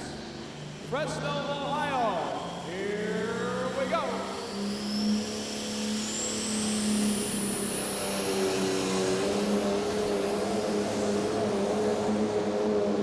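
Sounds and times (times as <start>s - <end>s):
high turbo whine: 0.0s - 13.0s.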